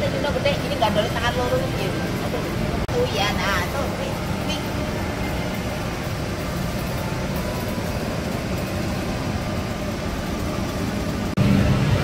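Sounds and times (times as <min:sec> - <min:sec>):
indoor mall background rumble: 0:00.0 - 0:12.0.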